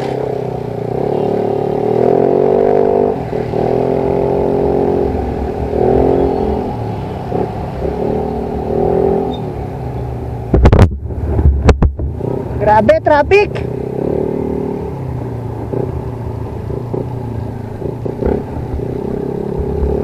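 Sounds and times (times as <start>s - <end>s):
scooter engine revving: 0.0s - 10.0s, 13.5s - 20.0s.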